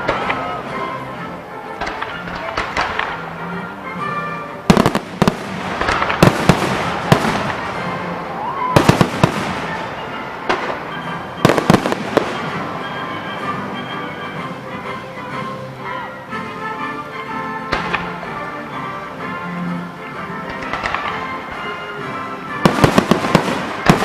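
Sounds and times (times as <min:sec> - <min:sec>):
fireworks bursting: 0:00.0 - 0:15.5, 0:17.6 - 0:19.3, 0:20.3 - 0:24.0.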